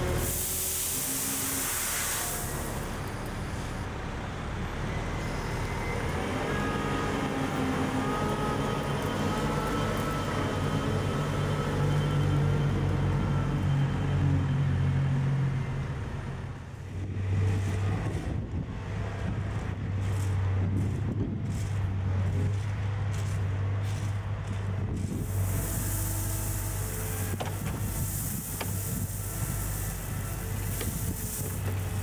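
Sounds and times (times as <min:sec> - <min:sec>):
diesel engines working under load: 0:00.0 - 0:32.0.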